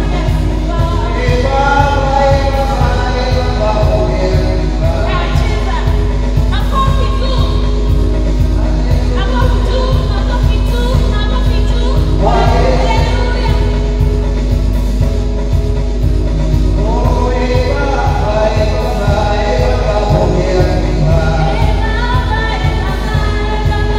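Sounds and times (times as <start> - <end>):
voices singing worship song: 0.0 - 15.6, 16.3 - 23.9
band with steady low beat: 0.0 - 23.9.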